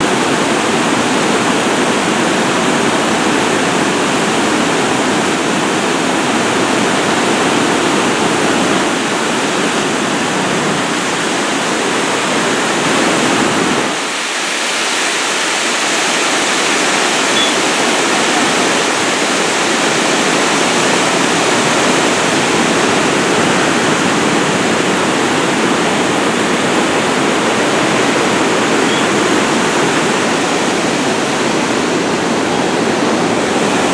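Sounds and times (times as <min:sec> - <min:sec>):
water rushing over dam: 0:00.0 - 0:33.9.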